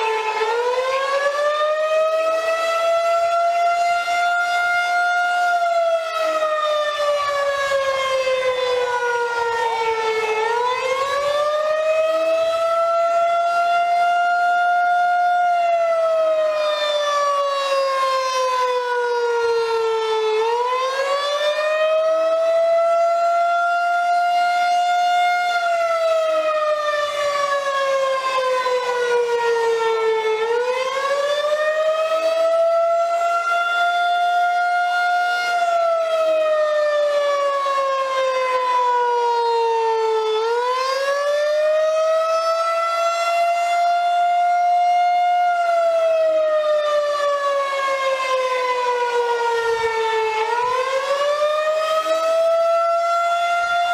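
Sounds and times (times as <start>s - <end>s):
tornado siren wailing: 0.0s - 53.9s.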